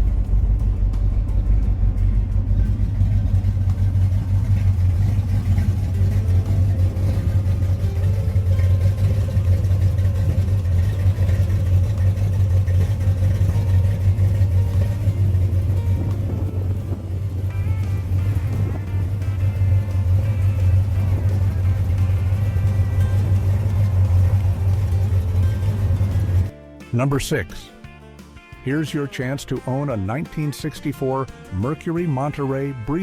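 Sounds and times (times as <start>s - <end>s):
car engine running: 0.0s - 26.6s.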